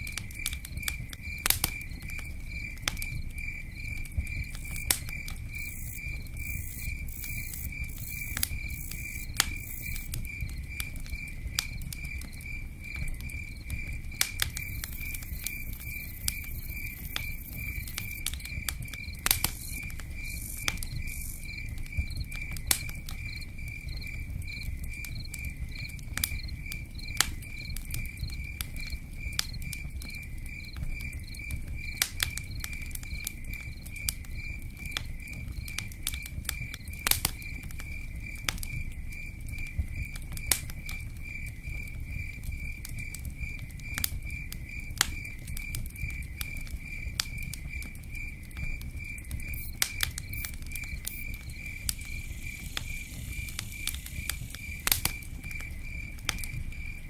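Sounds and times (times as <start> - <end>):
campfire crackling and popping: 0.0 - 57.0
cricket chirping: 0.0 - 57.0
rain pattering: 0.0 - 57.0.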